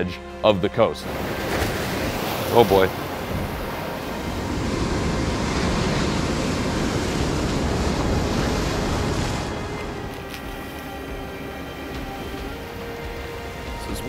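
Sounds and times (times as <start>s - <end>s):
surf washing over rocks: 1.0s - 14.0s.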